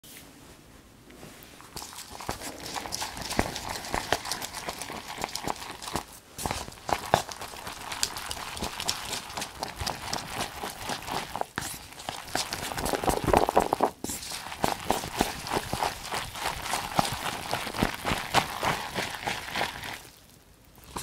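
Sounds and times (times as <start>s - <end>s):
crunchy snacks crackling: 1.7s - 20.3s.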